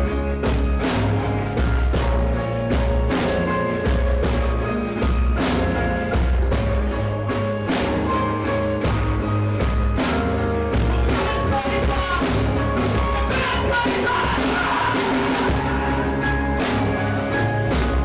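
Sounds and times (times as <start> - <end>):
heavy bass: 0.0 - 18.0
live band music: 0.0 - 18.0
percussion strikes: 0.0 - 18.0.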